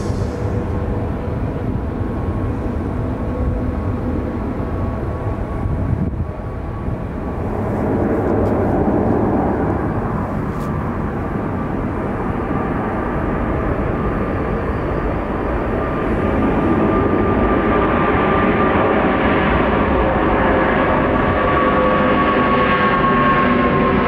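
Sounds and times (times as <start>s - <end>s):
jet engines roaring on takeoff: 0.0s - 24.0s.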